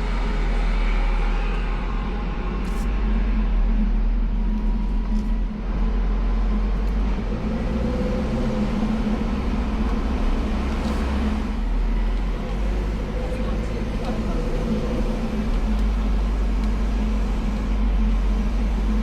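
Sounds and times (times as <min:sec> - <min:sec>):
car engine: 0:00.0 - 0:19.0
road rumble: 0:00.0 - 0:19.0.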